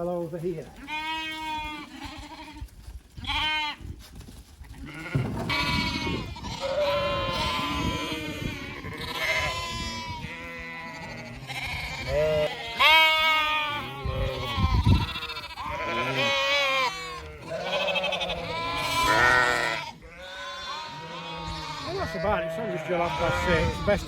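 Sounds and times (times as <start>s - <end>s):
sheep and lambs bleating: 0.8s - 3.9s, 4.7s - 24.0s.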